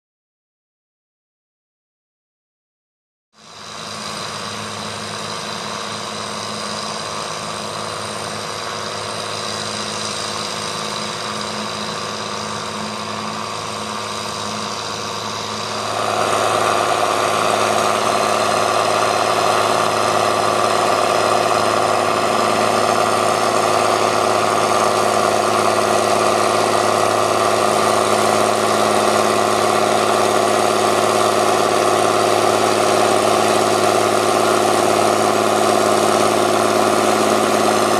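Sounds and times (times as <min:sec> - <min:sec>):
tractor diesel engine running: 0:03.4 - 0:37.9.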